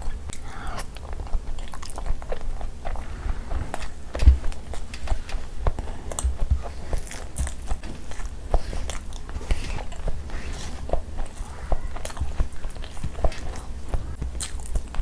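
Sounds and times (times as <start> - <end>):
chewing mouthful of food: 0.0 - 15.0.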